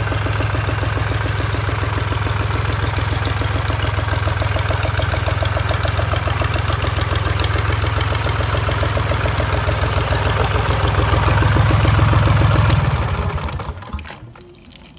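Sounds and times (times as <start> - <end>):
marine diesel engine running: 0.0 - 14.4.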